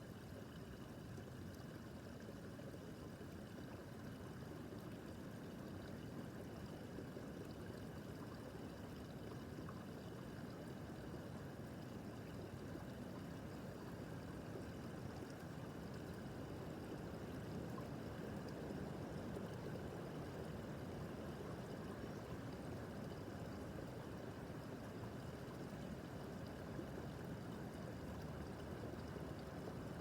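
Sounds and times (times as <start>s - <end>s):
brook babbling over stones: 0.0s - 30.0s.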